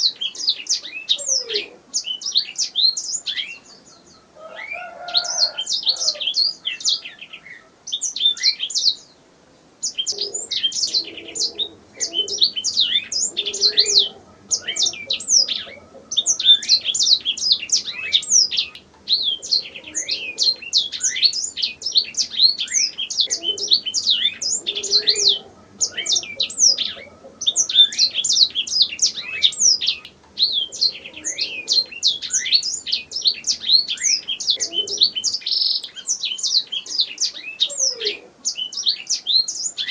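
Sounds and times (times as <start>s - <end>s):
canary singing: 0.0s - 9.2s, 9.8s - 39.9s.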